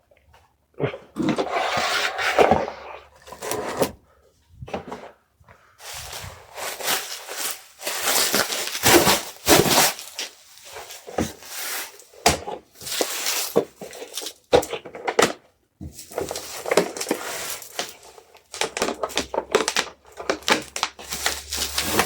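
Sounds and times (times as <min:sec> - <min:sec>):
packaging rustling and scraping: 0:01.2 - 0:04.1, 0:05.8 - 0:22.0.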